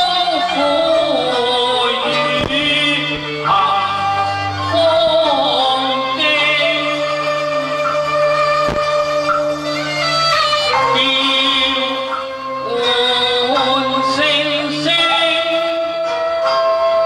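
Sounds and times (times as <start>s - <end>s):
sliding bowed-string melody: 0.0s - 17.0s
sustained bass notes: 0.0s - 17.0s.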